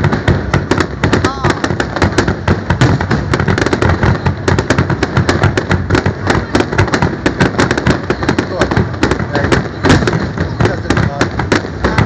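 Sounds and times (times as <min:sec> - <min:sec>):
fireworks bursts and bangs: 0:00.0 - 0:12.0.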